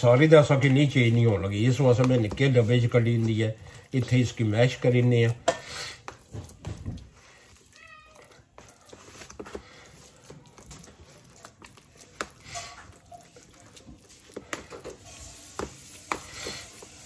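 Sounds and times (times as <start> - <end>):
utensil mashing food in container: 0.1 - 17.0.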